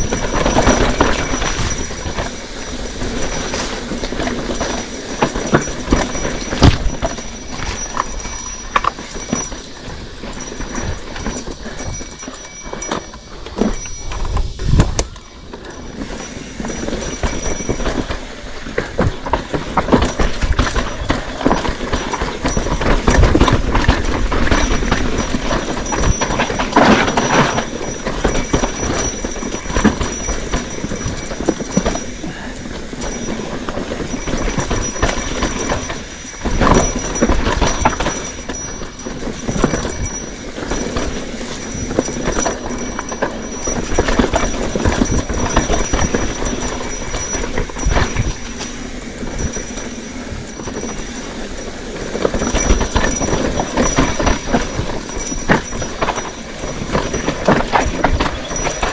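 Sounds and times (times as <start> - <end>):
bike rattling on rough trail: 0.0 - 58.9.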